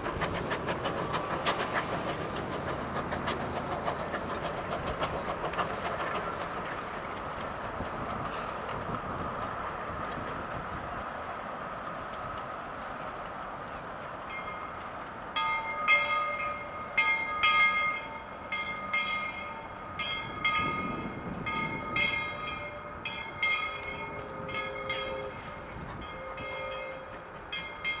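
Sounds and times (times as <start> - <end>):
steam train rumbling by: 0.0 - 28.0.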